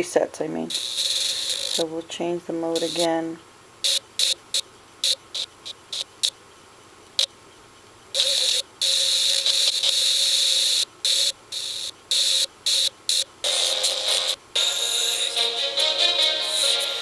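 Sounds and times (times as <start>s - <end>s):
radio static hiss: 0.0s - 6.4s, 8.1s - 17.0s.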